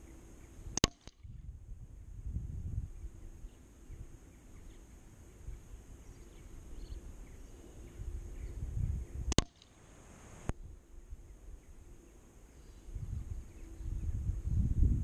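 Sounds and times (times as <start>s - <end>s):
low wind rumble: 0.0s - 15.0s
faint bird chirps: 1.8s - 10.0s, 10.6s - 14.7s.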